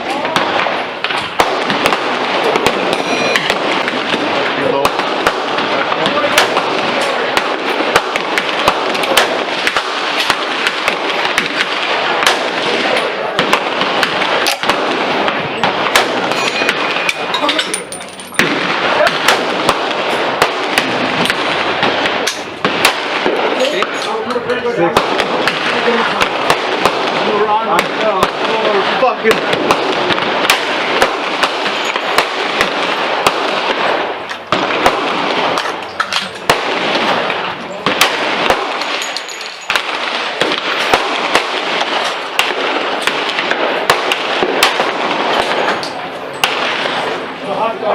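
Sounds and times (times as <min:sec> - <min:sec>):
gunshots cracking: 0:00.0 - 0:47.9
steady background noise: 0:00.0 - 0:47.9.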